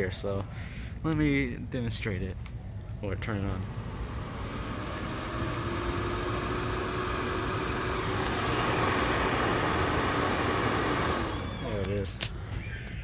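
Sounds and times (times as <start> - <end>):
exhaust fan whirring: 0.0 - 12.7.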